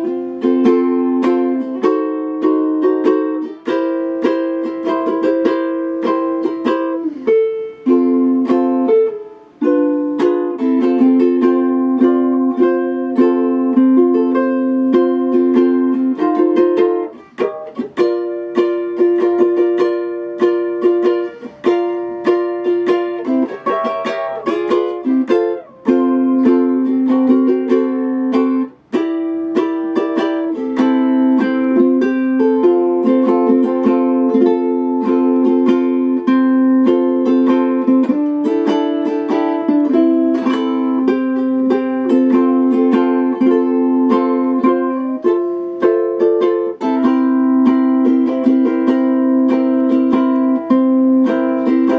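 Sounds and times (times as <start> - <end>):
ukulele tune: 0.0 - 51.9.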